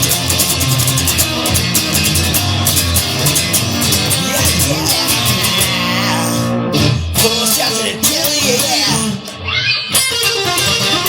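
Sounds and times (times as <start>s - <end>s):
electric guitar: 0.0s - 11.0s.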